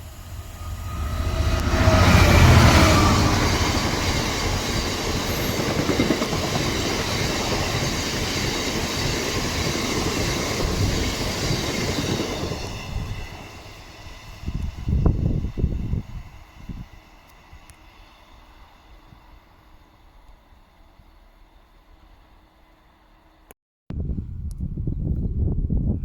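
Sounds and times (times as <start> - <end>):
train wheels rushing on rails: 0.0 - 23.5.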